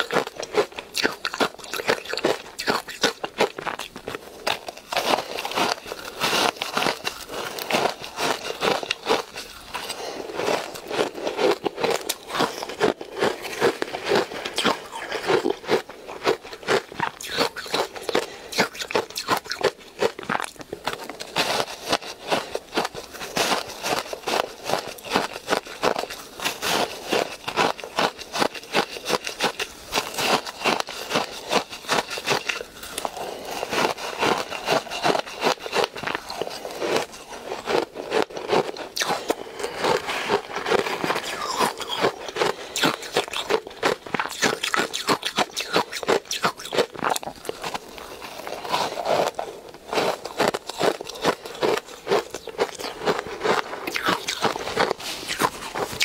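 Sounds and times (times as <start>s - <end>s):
ice crunching while chewed: 0.0s - 56.0s
metal spoon scraping ice: 4.5s - 56.0s.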